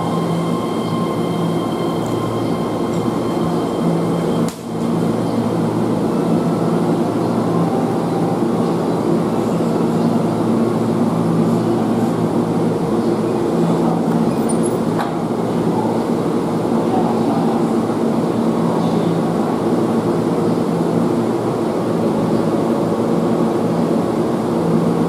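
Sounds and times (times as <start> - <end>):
train equipment humming: 0.0 - 25.0.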